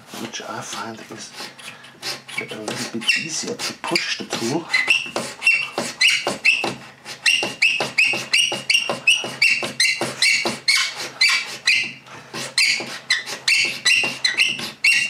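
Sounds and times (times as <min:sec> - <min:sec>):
blade scraping wood squeakily: 0:00.8 - 0:15.0.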